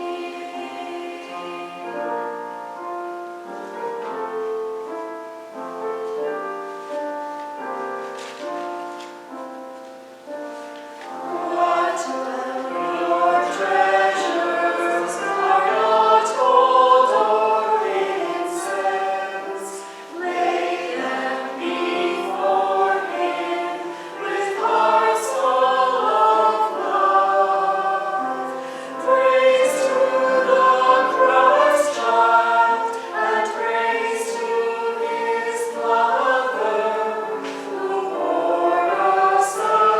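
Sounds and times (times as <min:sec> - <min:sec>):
church choir singing: 0:00.0 - 0:39.9
keyboard accompaniment: 0:00.0 - 0:39.9.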